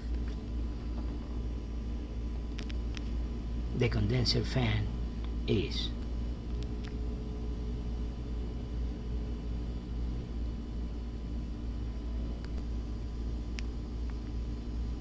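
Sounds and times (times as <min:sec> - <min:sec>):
refrigerator compressor humming: 0:00.0 - 0:15.0.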